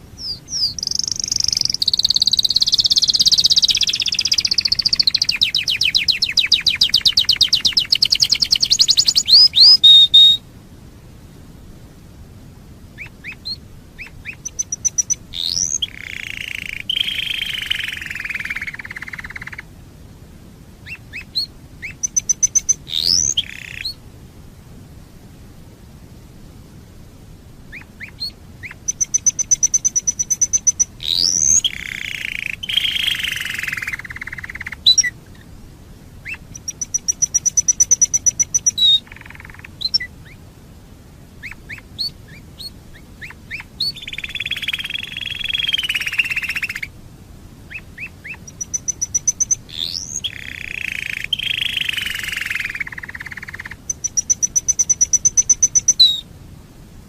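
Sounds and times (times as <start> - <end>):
canary singing trills and warbles: 0.0 - 10.4, 13.0 - 19.7, 20.8 - 24.0, 27.7 - 35.5, 36.2 - 40.4, 41.4 - 47.0, 47.7 - 56.3.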